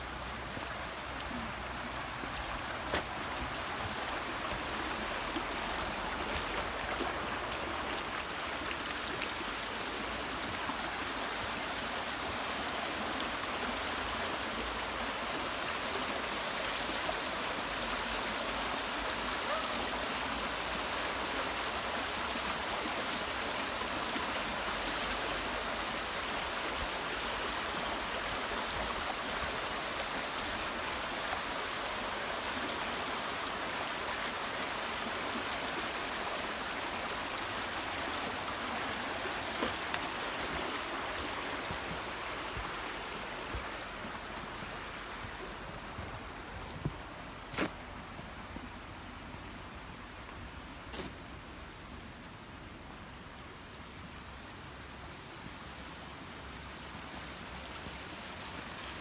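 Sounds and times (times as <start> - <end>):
running water rushing: 0.0 - 49.1.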